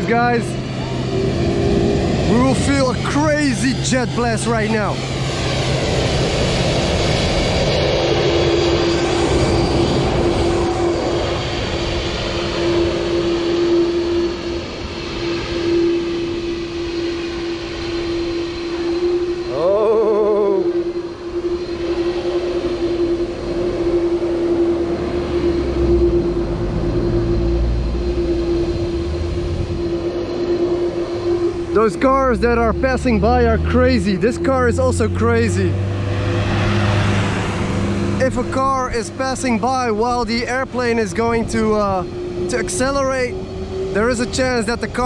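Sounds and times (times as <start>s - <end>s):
jet engines running: 0.0s - 45.0s.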